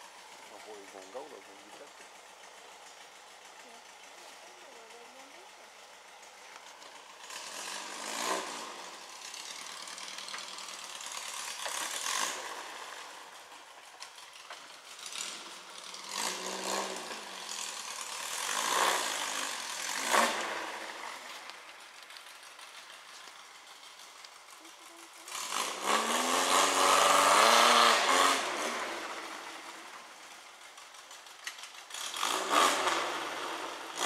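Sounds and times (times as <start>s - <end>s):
buggy engine revving: 0.0s - 34.0s.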